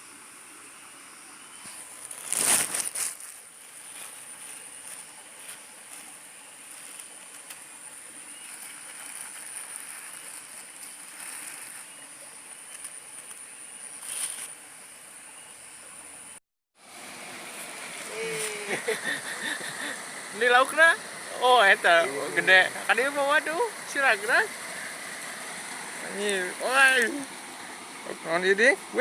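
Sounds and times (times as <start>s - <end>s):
steady high-pitched whine: 3.1s - 29.0s.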